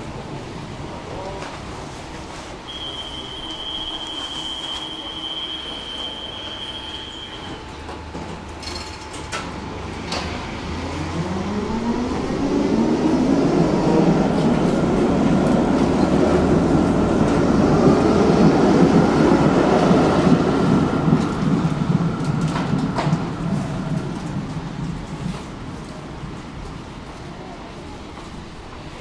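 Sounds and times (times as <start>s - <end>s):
wheels rumbling on rail: 0.0s - 29.0s
tram motor whine: 2.7s - 26.9s
tram clicks: 2.7s - 29.0s.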